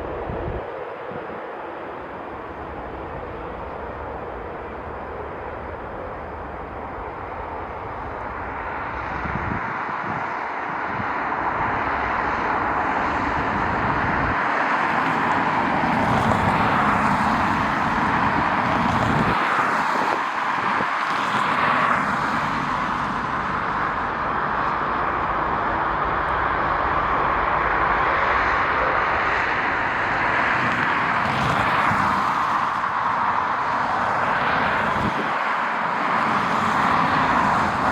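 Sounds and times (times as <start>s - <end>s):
jet engines rushing: 0.0s - 37.9s.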